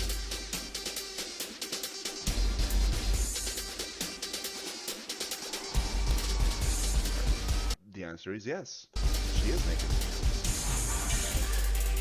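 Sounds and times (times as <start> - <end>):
electronic dance music with heavy bass: 0.0 - 7.8, 9.0 - 12.0.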